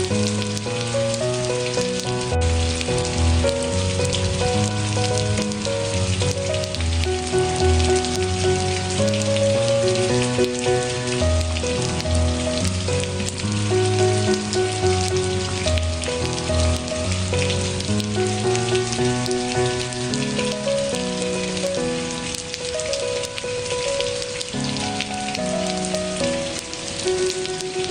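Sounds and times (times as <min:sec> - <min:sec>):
rain hiss: 0:00.0 - 0:27.9
slow gentle music: 0:00.0 - 0:27.9.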